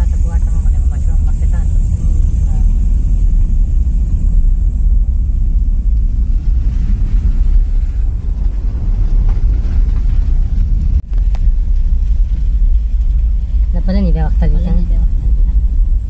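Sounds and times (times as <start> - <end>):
car driving on rough road: 0.0 - 16.0.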